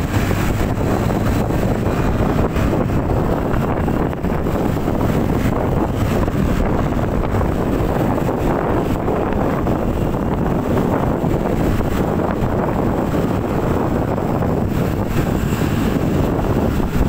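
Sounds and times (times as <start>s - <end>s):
motorbike road and engine noise: 0.0s - 17.0s
wind rushing over microphone: 0.0s - 17.0s.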